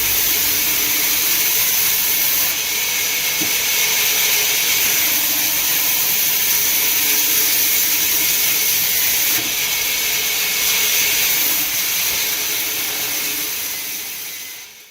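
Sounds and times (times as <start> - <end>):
wood-cutting machinery hissing: 0.0 - 14.9.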